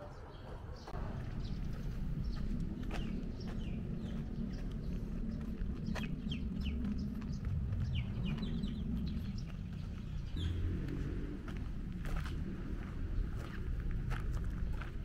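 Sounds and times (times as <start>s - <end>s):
birds chirping: 0.0s - 15.0s
low rumble: 0.6s - 15.0s.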